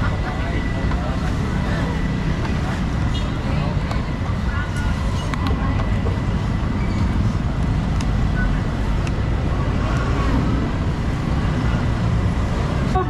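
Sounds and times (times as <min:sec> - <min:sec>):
distant voices: 0:00.0 - 0:13.0
low rumble of market: 0:00.0 - 0:13.0.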